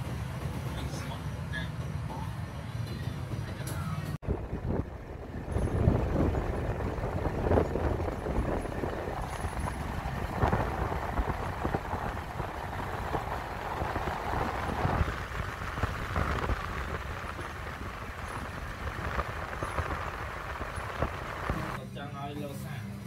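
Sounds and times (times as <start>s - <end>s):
road and wind noise: 0.0s - 21.8s
vehicle engine running: 0.0s - 21.8s.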